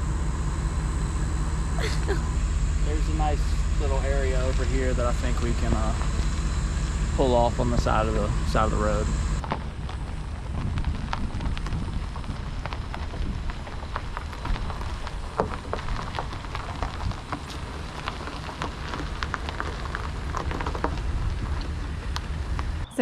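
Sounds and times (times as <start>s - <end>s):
tyres crunching on gravel: 0.0s - 22.9s
vehicle engine running low: 0.0s - 23.0s.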